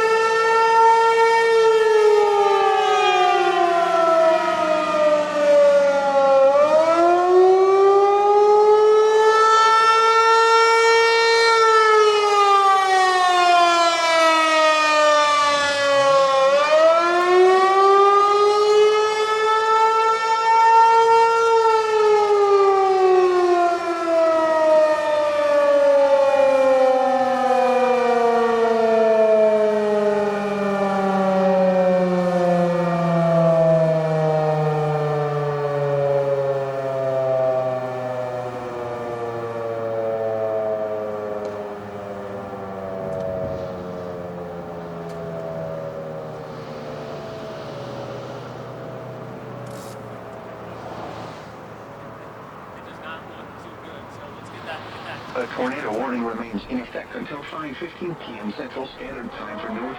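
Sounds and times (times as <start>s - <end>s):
warning siren wailing: 0.0s - 50.8s, 51.8s - 59.9s.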